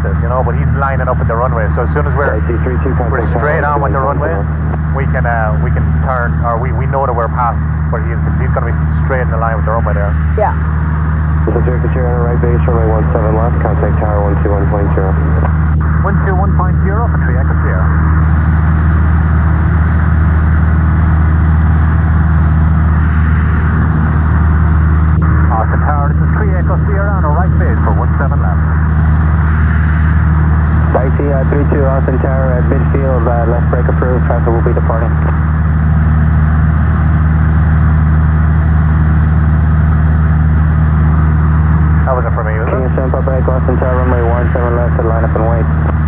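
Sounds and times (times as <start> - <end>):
airplane engine and propeller drone: 0.0 - 46.0.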